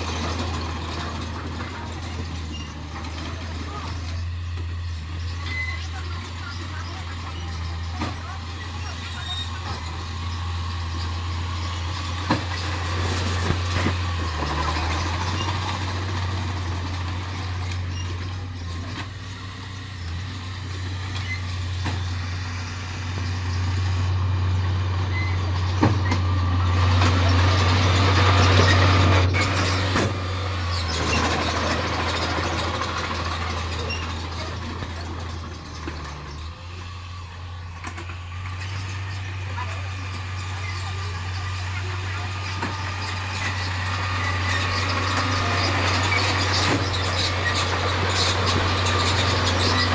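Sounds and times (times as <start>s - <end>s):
diesel machinery droning: 0.0s - 49.9s.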